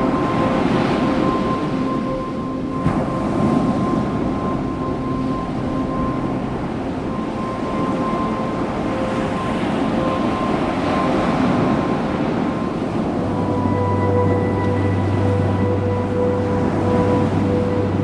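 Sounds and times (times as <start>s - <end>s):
faint background music: 0.0s - 18.0s
ocean surf: 0.0s - 18.0s
wind on microphone: 0.0s - 18.0s.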